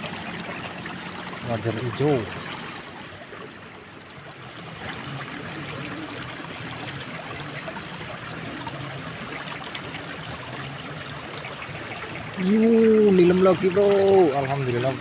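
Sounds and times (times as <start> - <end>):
water running in a ditch: 0.0 - 15.0.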